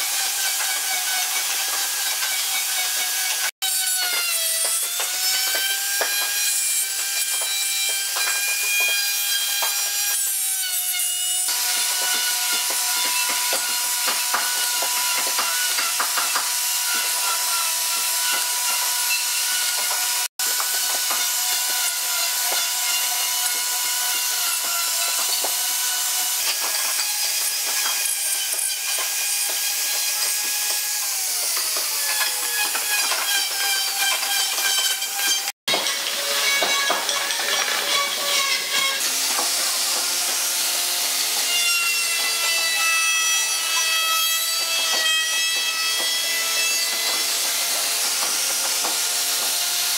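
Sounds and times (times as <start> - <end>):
router bit cutting wood: 0.0 - 49.9
wood router whining: 0.0 - 49.9.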